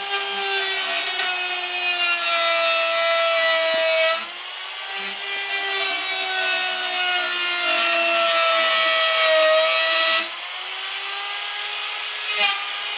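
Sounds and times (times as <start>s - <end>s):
rotary tool grinding wood: 0.0s - 12.9s.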